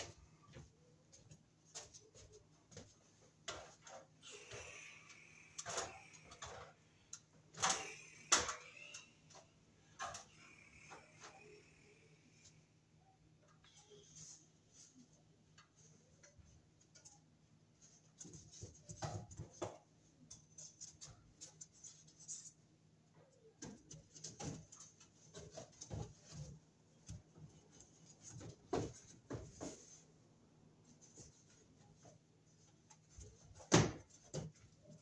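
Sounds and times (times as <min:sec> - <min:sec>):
ceiling tile scraping and rustling: 0:00.0 - 0:11.6, 0:13.5 - 0:30.2.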